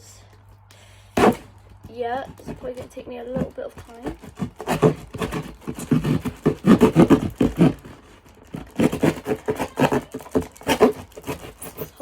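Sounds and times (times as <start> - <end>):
knife cutting cardboard: 1.2 - 12.0.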